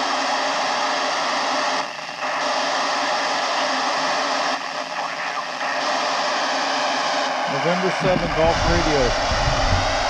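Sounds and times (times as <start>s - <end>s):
radio static hiss: 1.5s - 10.0s.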